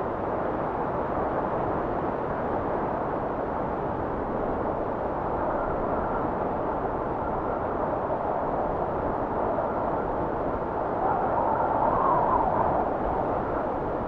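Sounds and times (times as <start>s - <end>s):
blizzard wind rushing: 2.1s - 14.0s.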